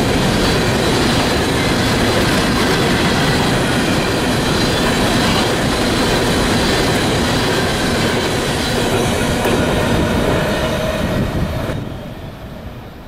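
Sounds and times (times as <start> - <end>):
wheels rumbling and clattering on rail: 0.0 - 13.0.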